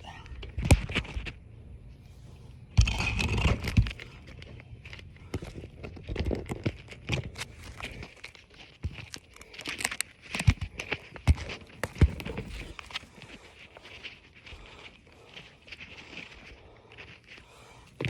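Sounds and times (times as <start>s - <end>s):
roof shingles crinkling and scraping: 0.0s - 18.0s.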